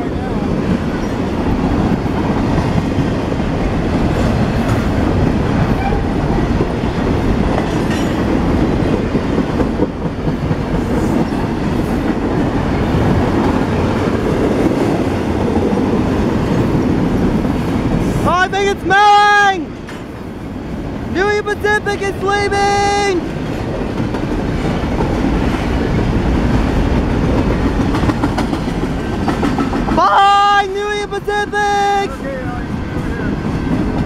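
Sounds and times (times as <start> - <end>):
steel wheels running over rails: 0.0 - 34.0.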